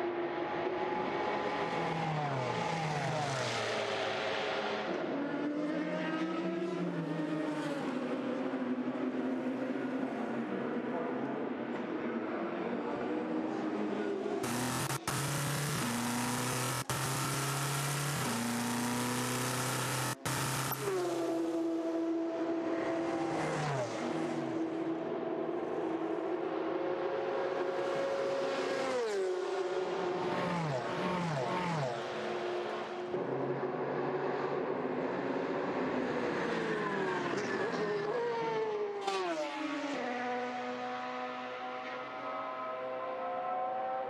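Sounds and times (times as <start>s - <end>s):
racing car engines: 0.0s - 44.0s.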